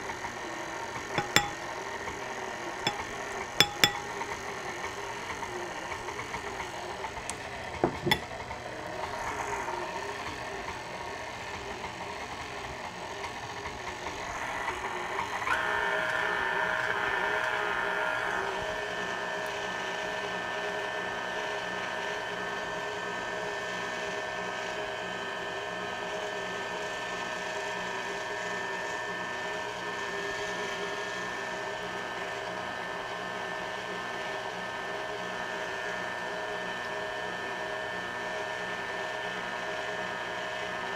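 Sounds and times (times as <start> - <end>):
stand mixer motor whine: 5.0 - 40.9.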